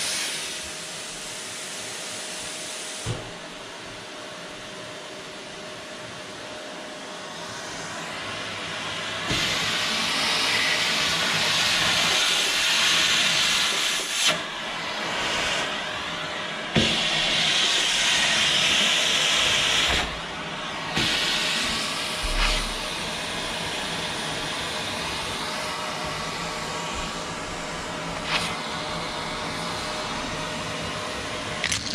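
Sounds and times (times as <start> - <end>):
canister vacuum cleaner running: 0.0 - 31.9.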